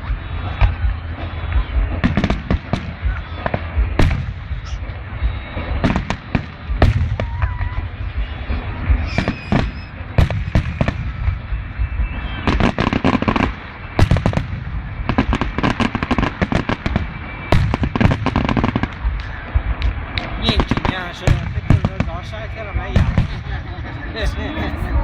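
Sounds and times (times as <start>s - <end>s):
fireworks booming and cracking: 0.0s - 25.0s.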